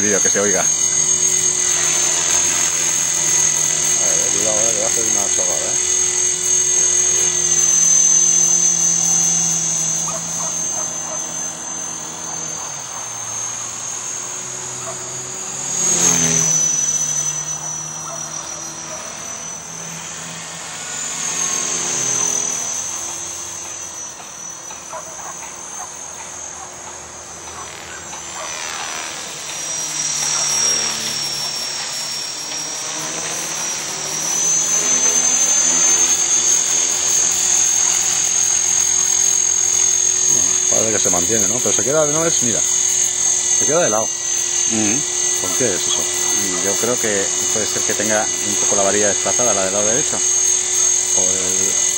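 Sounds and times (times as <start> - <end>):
rc helicopter rotor whine: 0.0 - 51.9.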